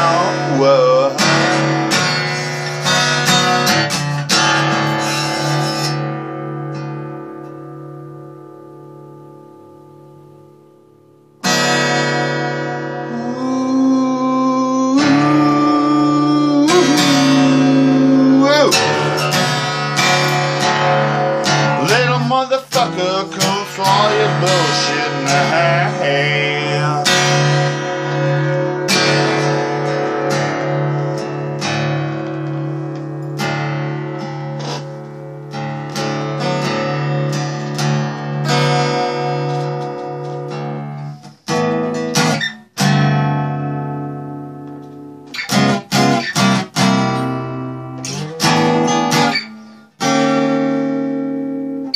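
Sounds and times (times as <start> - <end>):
guitar chords ringing: 0.0 - 51.9.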